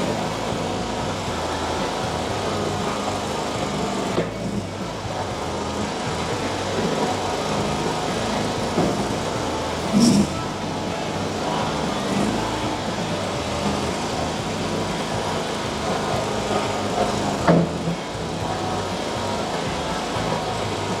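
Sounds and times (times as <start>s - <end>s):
loader engine running: 0.0s - 21.0s.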